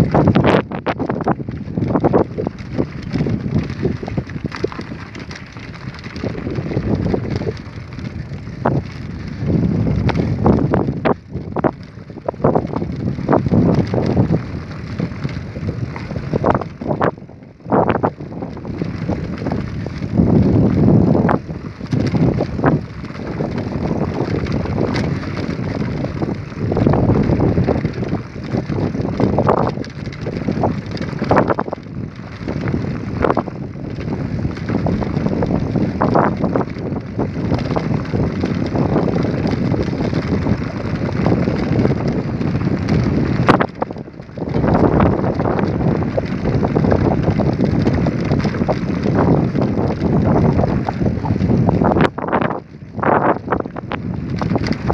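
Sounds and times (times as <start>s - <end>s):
bicycle tyres on dirt track: 0.0s - 54.9s
wind buffeting microphone: 0.0s - 54.9s.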